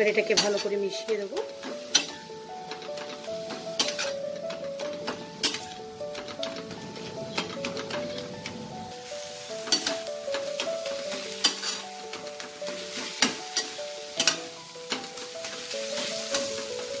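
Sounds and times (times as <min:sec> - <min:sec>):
metal spatula scraping a pan: 0:00.0 - 0:06.7, 0:09.3 - 0:17.0
greens sizzling in oil: 0:00.0 - 0:17.0
soft background music: 0:00.0 - 0:17.0.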